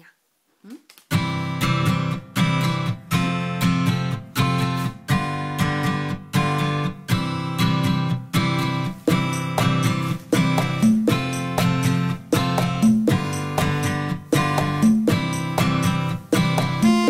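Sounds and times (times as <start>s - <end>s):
acoustic guitar strumming chords: 1.2s - 17.0s.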